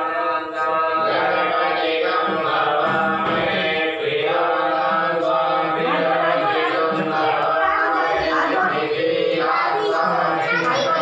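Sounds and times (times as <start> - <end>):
voices chanting a mantra: 0.0 - 11.0.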